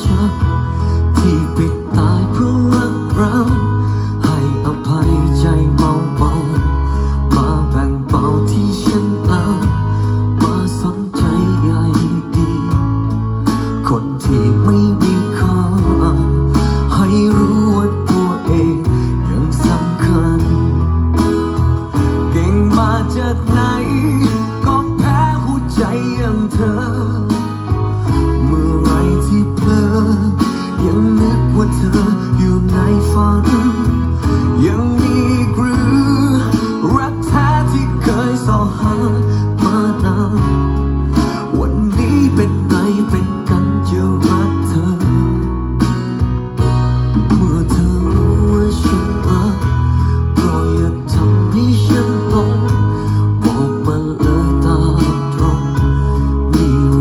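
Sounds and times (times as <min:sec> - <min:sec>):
acoustic guitar music with bass: 0:00.0 - 0:57.0.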